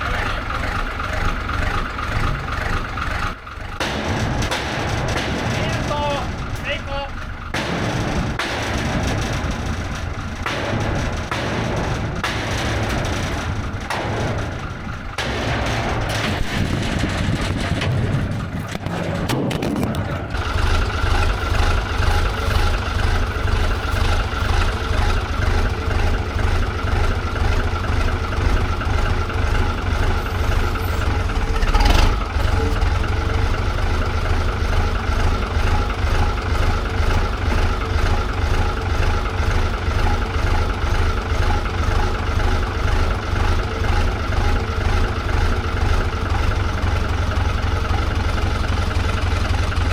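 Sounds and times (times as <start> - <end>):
vehicle engine idling: 0.0 - 49.9.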